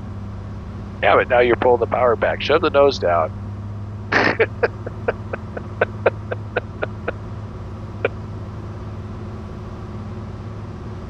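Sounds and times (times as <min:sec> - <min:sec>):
muffled propeller plane engine drone: 0:00.0 - 0:11.0.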